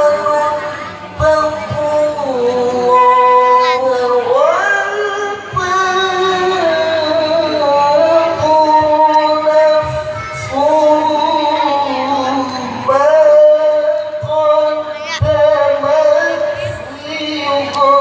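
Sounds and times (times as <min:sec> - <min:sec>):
person reciting melodically: 0:00.0 - 0:18.0.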